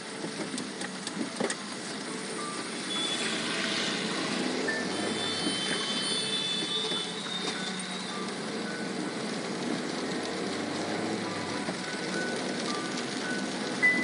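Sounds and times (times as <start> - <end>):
car driving in rain: 0.0 - 14.0.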